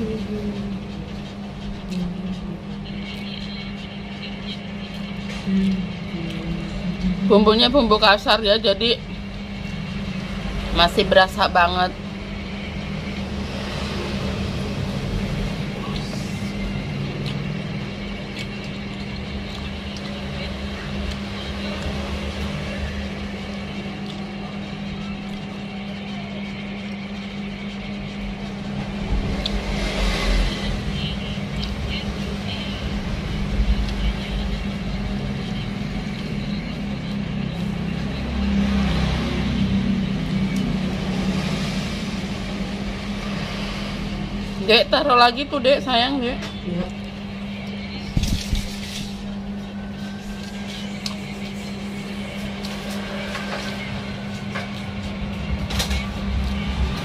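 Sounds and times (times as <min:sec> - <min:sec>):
low mechanical hum with rumble: 0:00.0 - 0:57.0.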